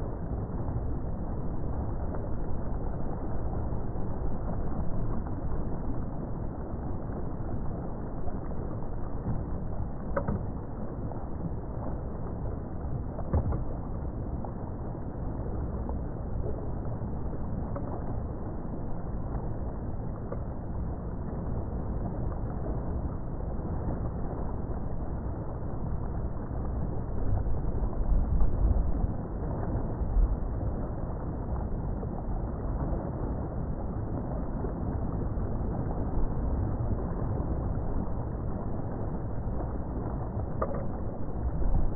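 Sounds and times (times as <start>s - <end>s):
motorboat engine and water rushing: 0.0s - 41.9s.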